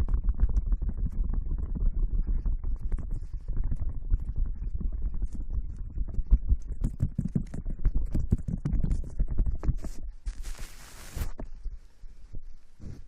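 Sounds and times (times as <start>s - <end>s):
rubbing and scratching on microphone: 0.0s - 13.0s.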